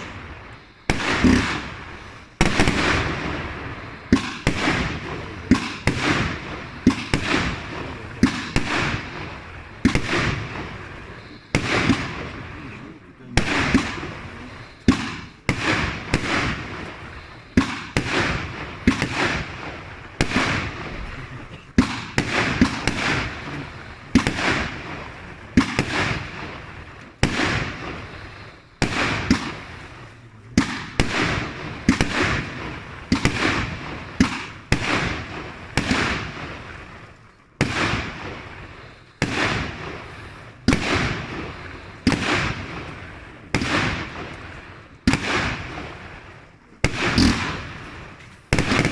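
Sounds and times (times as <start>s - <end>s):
firework bangs: 0.0s - 48.9s
firework crackle: 0.0s - 48.9s.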